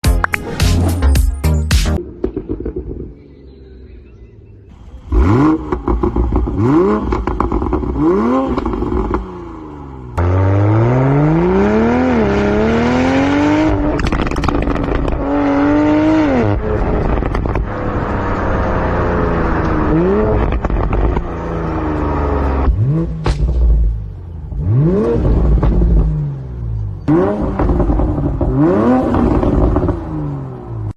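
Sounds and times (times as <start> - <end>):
car engine revving: 4.8 - 30.9.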